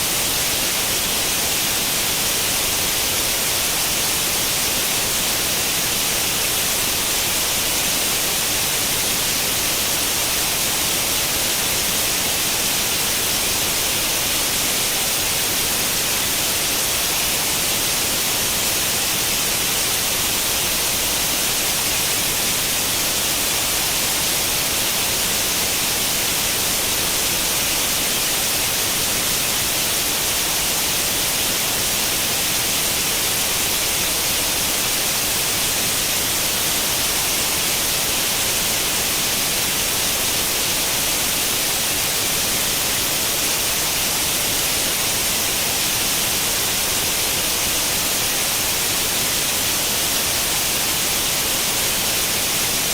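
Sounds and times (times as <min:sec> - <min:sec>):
television static hiss: 0:00.0 - 0:52.9.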